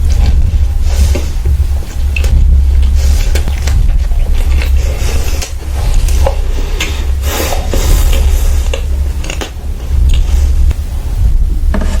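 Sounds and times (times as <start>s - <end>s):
chewing and squishing: 0.0s - 10.8s
low rumble: 0.0s - 12.0s.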